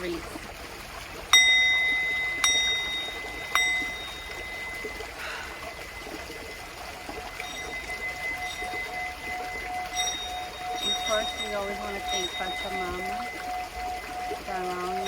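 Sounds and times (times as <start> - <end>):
stream trickling: 0.0 - 15.0
singing bowl ringing: 1.3 - 15.0.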